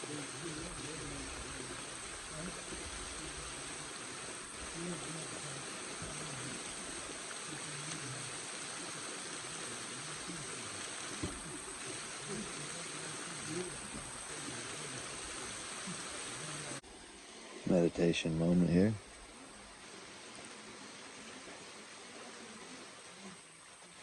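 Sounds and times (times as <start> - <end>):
faint voices: 0.0 - 16.8, 17.6 - 24.0
waterfall rushing: 0.0 - 24.0.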